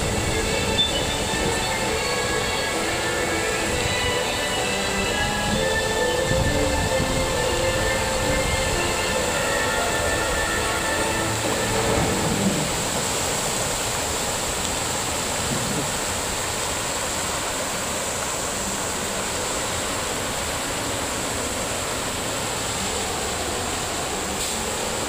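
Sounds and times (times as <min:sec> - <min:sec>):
fountain jets splashing into pool: 0:00.0 - 0:25.0.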